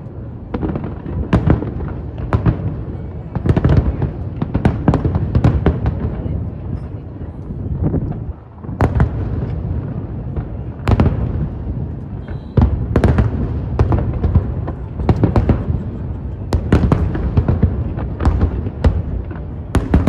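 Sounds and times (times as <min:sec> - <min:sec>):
fireworks bursting: 0:00.0 - 0:20.0
rumble of echoing detonations: 0:00.0 - 0:20.0.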